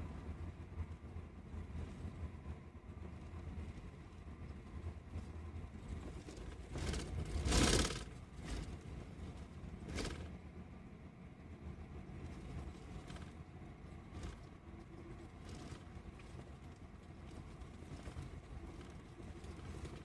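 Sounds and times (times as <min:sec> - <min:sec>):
bus rumbling: 0:00.0 - 0:20.0.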